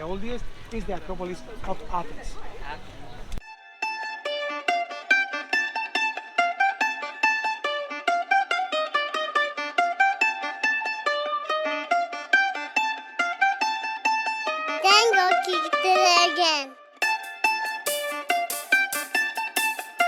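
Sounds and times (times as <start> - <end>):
quick plucked string melody: 2.8 - 20.0.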